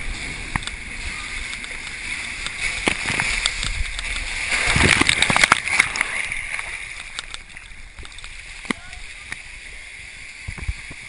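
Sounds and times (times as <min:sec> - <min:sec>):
water rushing in slide tube: 0:00.0 - 0:11.0.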